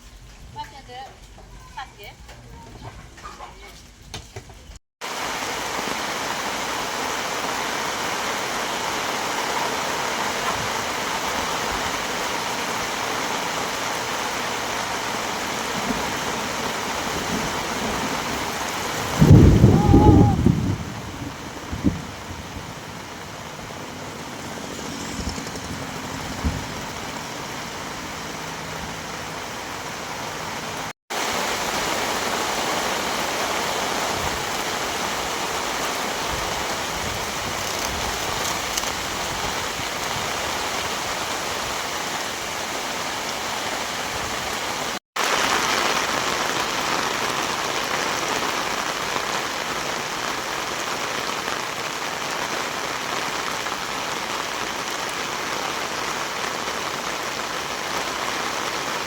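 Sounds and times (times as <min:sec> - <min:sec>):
heavy rain falling: 0:05.0 - 0:59.0.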